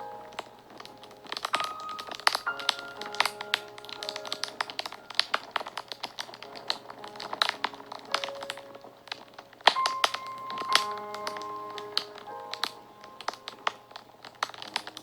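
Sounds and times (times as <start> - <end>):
fire crackling and popping: 0.0 - 15.0
soft background music: 0.0 - 15.0.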